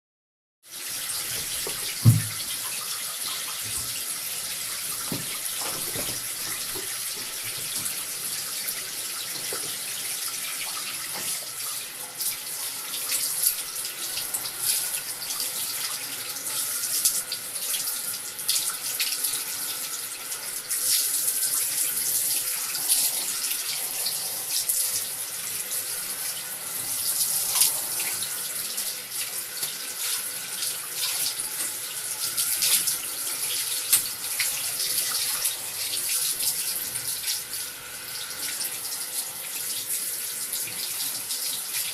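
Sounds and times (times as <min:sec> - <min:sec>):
water running from tap: 0:00.6 - 0:41.9.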